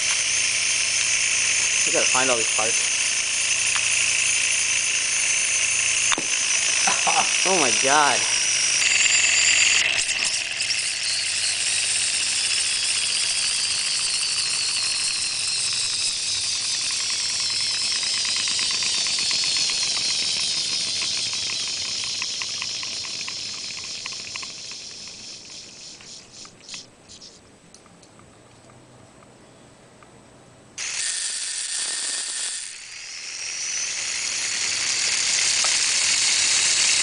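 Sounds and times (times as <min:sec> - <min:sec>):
motor and gears whining: 0:00.0 - 0:27.4, 0:30.8 - 0:37.0
gear clicks: 0:00.0 - 0:28.8, 0:30.8 - 0:37.0.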